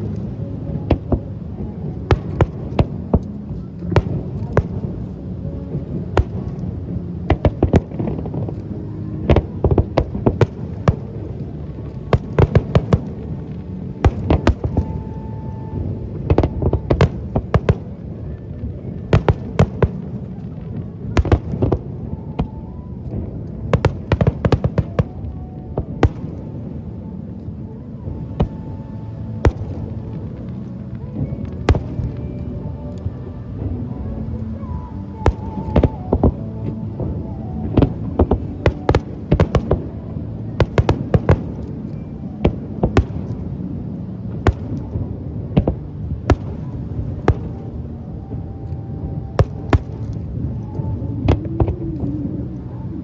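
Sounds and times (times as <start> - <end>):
low background rumble: 0.0 - 53.0.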